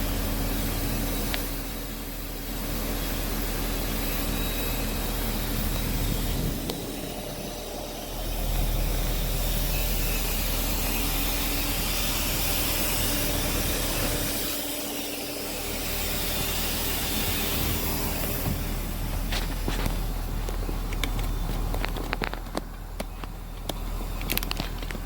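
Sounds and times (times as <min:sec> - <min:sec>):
low engine hum: 0:00.0 - 0:25.0
tyre hiss on wet road: 0:00.1 - 0:20.5.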